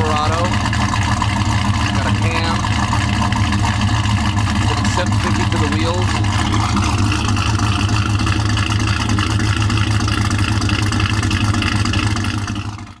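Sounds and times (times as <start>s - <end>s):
v eight engine idling: 0.0s - 13.0s.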